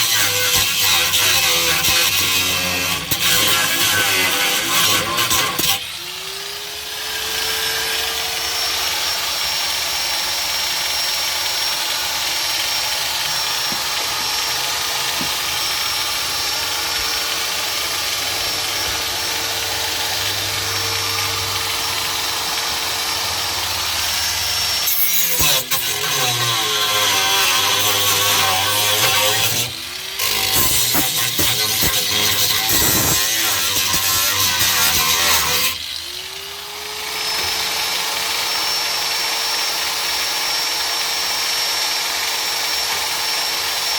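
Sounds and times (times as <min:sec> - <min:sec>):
angle grinder grinding sheet metal: 0:00.0 - 0:43.9.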